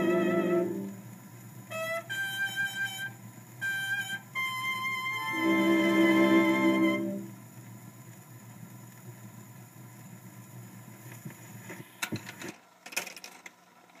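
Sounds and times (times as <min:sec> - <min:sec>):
faint low hum: 0:00.0 - 0:12.6
record surface hiss and crackle: 0:00.0 - 0:14.0.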